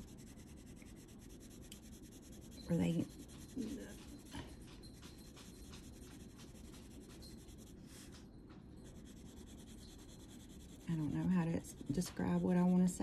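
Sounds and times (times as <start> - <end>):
pencil scratching on paper: 0.0 - 8.2, 8.8 - 13.0.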